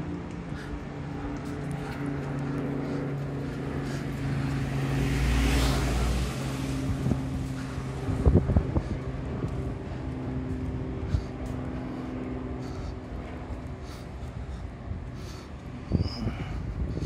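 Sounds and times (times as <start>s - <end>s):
vehicle passing close by: 0.0s - 14.6s
steady engine hum: 0.0s - 17.0s.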